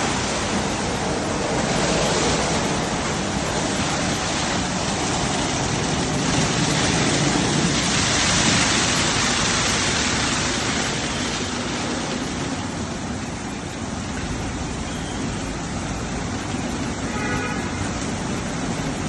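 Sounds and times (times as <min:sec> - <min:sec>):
car wash water jets spraying: 0:00.0 - 0:19.0.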